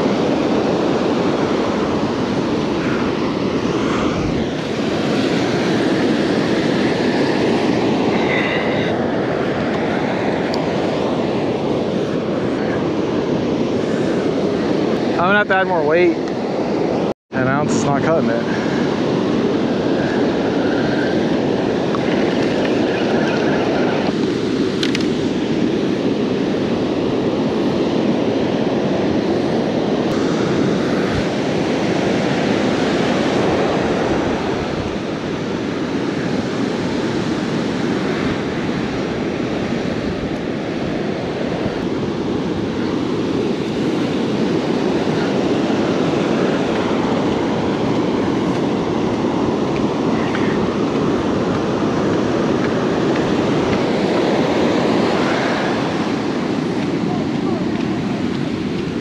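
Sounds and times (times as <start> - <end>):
ocean surf roaring: 0.0 - 59.0.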